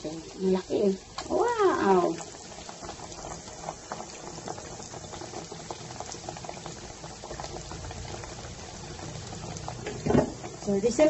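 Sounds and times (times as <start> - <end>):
cutlet sizzling in oil: 0.0 - 11.0.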